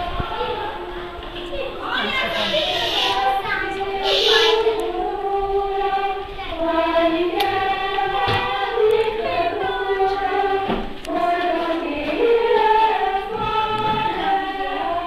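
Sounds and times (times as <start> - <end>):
children singing: 0.0 - 15.0.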